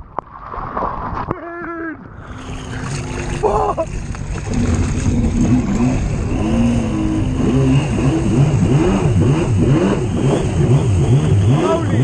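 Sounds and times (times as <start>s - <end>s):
water rushing against hull: 0.0s - 12.0s
jet ski engine revving: 2.2s - 12.0s.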